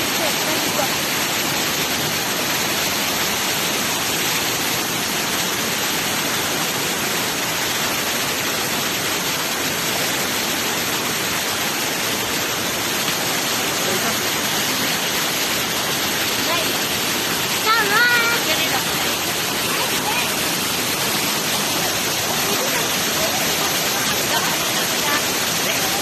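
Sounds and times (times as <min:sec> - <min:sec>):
waterfall and rapids rushing: 0:00.0 - 0:26.0.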